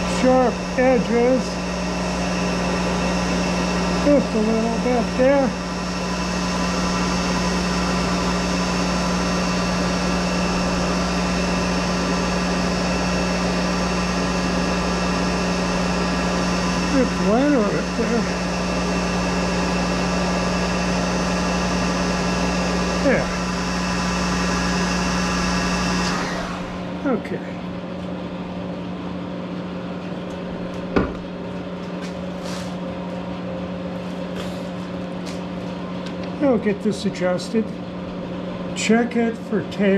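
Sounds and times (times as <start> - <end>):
lathe humming: 0.0 - 39.9.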